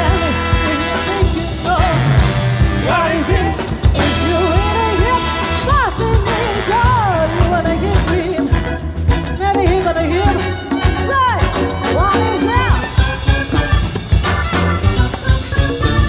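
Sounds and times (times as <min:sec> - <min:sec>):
woman singing: 0:00.0 - 0:13.0
funk band playing: 0:00.0 - 0:16.0.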